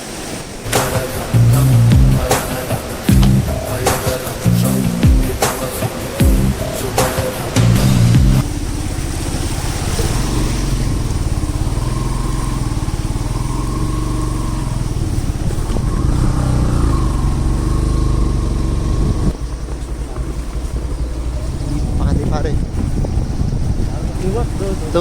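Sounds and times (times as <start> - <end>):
motorcycle engine running: 1.4 - 2.4, 3.1 - 3.9, 4.6 - 5.5, 6.2 - 6.8, 7.6 - 25.0.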